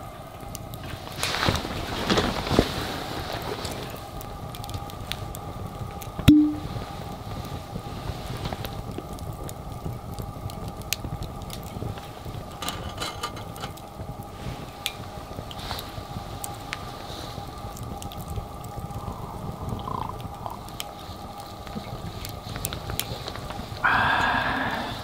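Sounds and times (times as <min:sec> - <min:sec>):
campfire crackling: 0:00.0 - 0:25.0
faint steady hum: 0:00.0 - 0:25.0.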